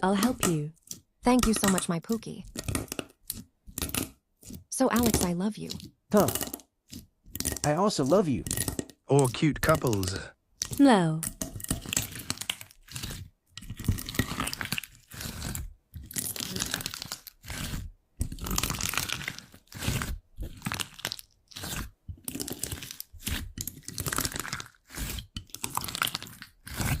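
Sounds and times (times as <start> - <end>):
crunchy slime crackling: 2.4 - 27.0.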